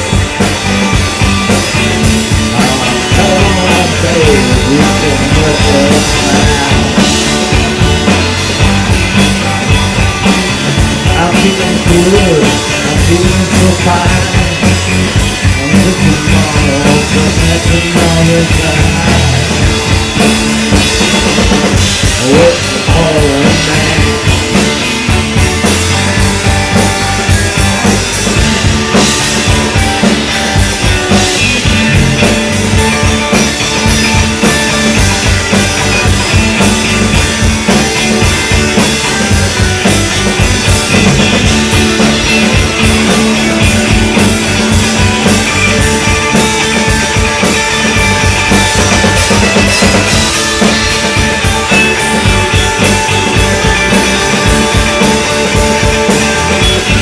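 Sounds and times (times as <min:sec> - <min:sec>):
drum kit beat: 0:00.0 - 0:57.0
electric guitar: 0:00.0 - 0:57.0.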